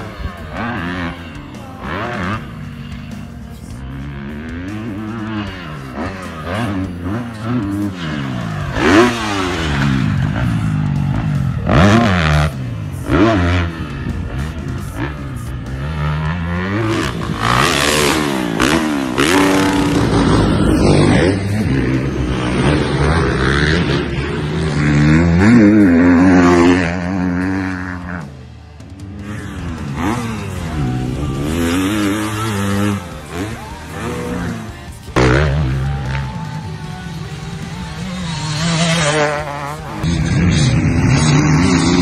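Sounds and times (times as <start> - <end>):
dirt bike engine revving: 0.0 - 42.0
loud rushes of noise: 4.1 - 42.0.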